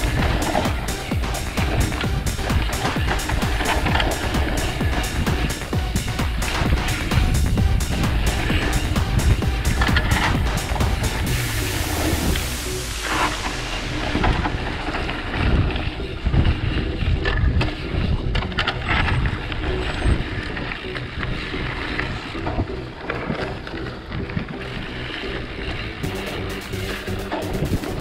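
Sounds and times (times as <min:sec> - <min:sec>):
wind rushing over microphone: 0:00.0 - 0:26.7
bike knocking and rattling: 0:00.0 - 0:28.0
mountain bike rolling on dirt: 0:00.0 - 0:28.0.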